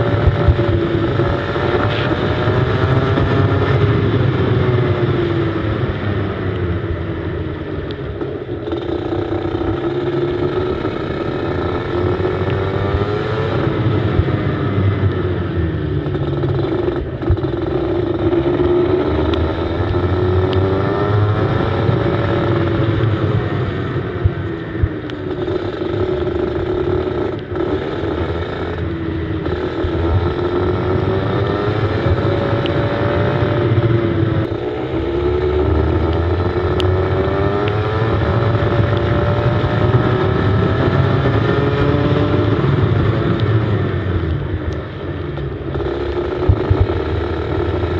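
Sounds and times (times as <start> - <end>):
go-kart engine revving: 0.0 - 47.9.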